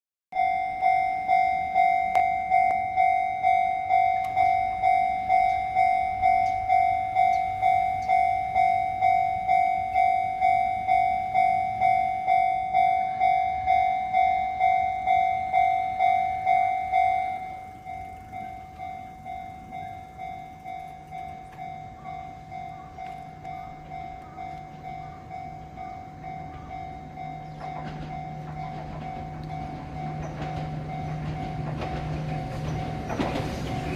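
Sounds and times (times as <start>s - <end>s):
level crossing warning bell: 0.3s - 33.9s
approaching train rushing: 0.4s - 33.9s.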